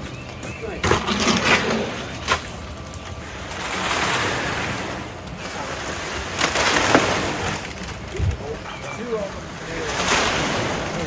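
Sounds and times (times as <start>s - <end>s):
low engine hum: 0.0s - 11.0s
wet concrete pouring: 0.6s - 11.0s.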